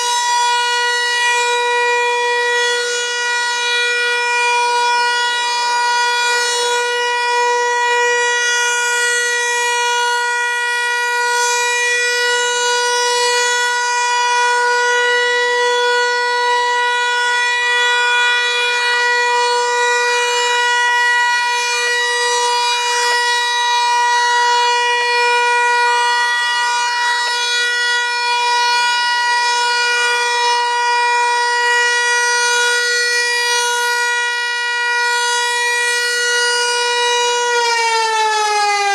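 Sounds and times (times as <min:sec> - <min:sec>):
outdoor warning siren steady tone: 0:00.0 - 0:38.9.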